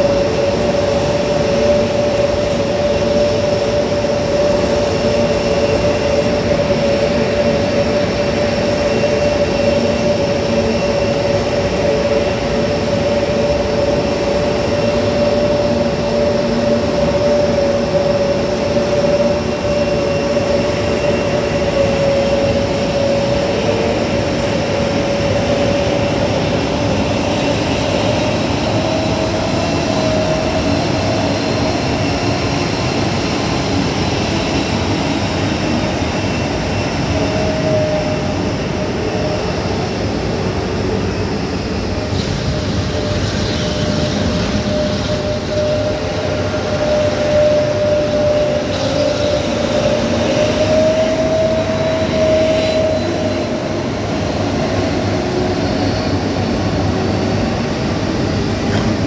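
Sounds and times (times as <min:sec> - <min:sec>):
jet engines roaring and whining: 0:00.0 - 0:59.0.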